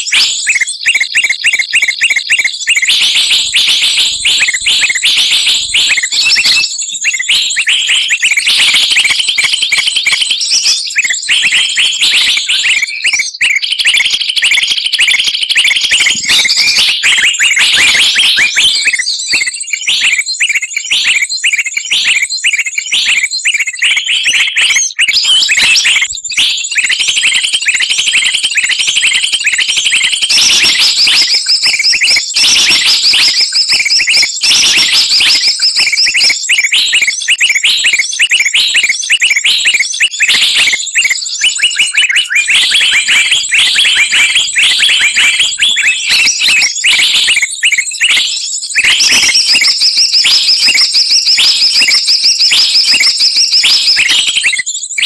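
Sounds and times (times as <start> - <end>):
chorus of songbirds chirping: 0.0 - 55.0.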